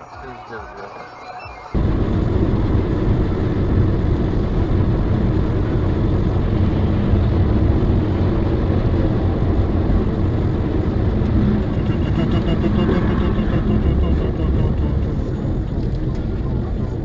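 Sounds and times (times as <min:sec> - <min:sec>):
vehicle road and engine noise: 0:00.0 - 0:17.0.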